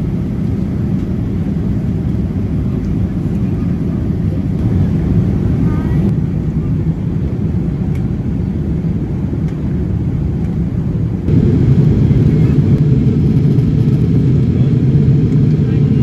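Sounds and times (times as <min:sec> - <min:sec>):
airplane engines and airflow in cabin: 0:00.0 - 0:16.0.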